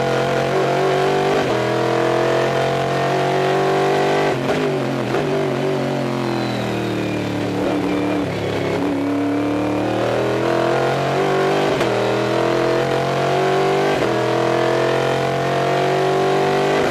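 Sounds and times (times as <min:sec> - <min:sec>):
race car engine: 0:00.0 - 0:16.9.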